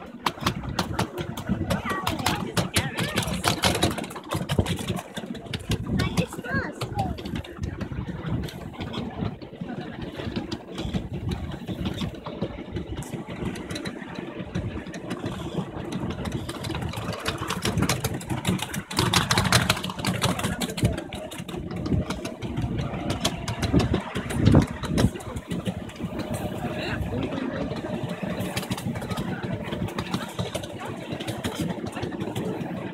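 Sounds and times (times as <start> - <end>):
locomotive engine running: 0.0 - 32.9
wheels clattering over track: 0.0 - 32.9.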